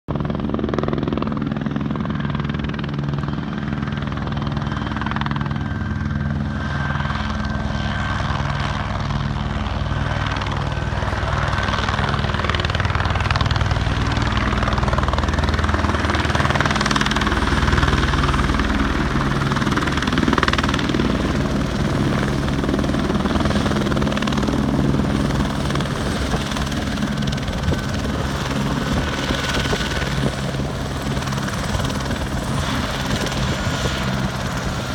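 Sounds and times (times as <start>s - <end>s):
helicopter engine noise: 0.1s - 34.9s
helicopter rotor beating: 0.1s - 34.9s.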